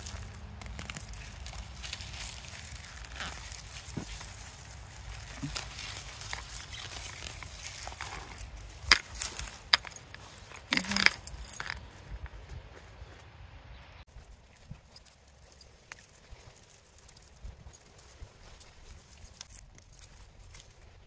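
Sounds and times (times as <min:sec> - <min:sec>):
rustling and crunching in soil: 0:00.0 - 0:21.0.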